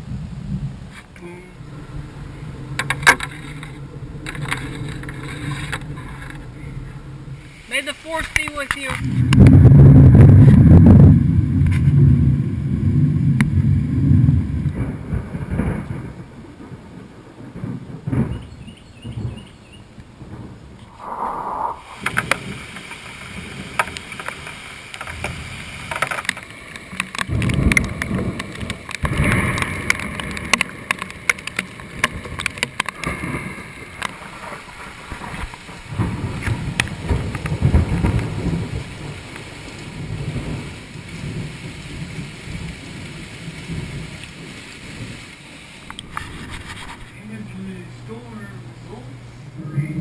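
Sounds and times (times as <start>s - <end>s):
thunder rumbling: 0.0s - 50.0s.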